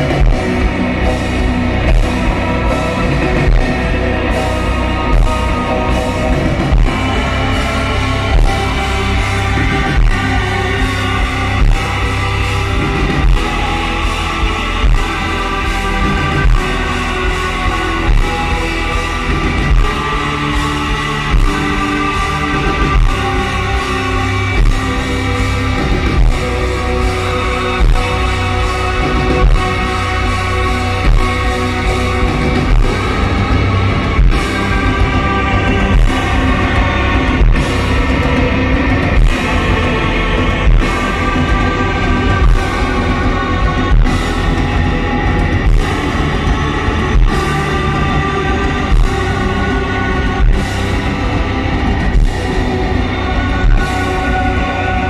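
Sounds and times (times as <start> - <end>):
live band playing post-rock: 0.0 - 55.0.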